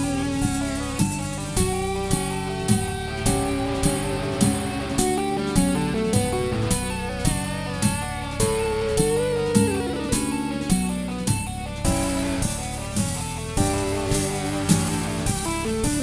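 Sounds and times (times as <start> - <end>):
cymbal or snare hits: 0.0 - 10.7, 11.3 - 16.0
bass line: 0.0 - 16.0
drum beat: 0.0 - 16.0
guitar-led music: 0.0 - 16.0.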